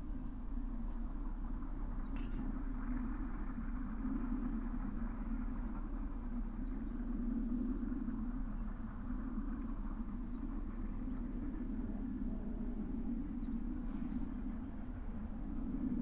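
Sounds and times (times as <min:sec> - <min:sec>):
steady low machine rumble: 0:00.0 - 0:16.0.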